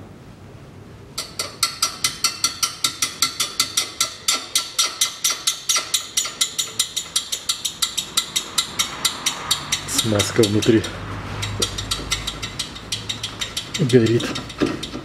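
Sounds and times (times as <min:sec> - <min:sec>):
ratchet wrench clicking: 0:01.2 - 0:15.0.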